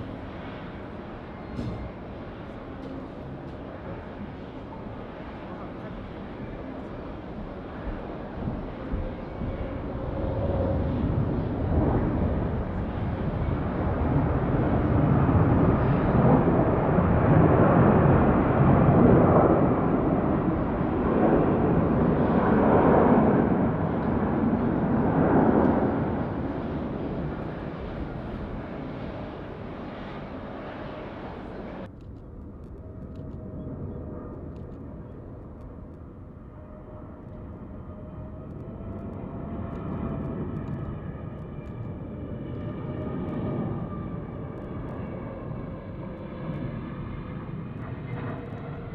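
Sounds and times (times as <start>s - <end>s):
jet airliner passing: 0.0s - 48.9s
jet engine hum: 0.0s - 48.9s.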